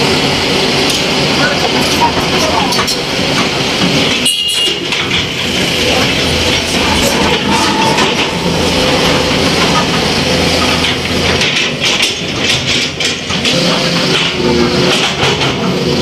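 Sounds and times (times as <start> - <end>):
loud dense noisy din: 0.0 - 16.0
motor vehicle engine running: 0.0 - 16.0
scattered clicks and knocks: 0.8 - 16.0.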